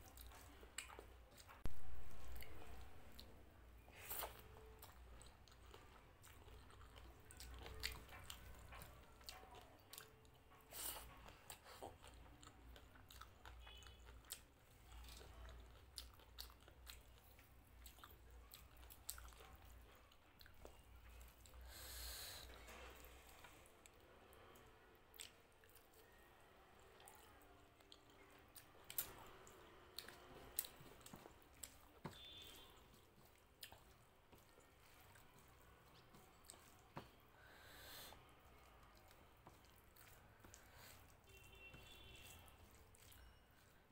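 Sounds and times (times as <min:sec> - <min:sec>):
chewing and wet mouth sounds: 0:00.0 - 0:43.9.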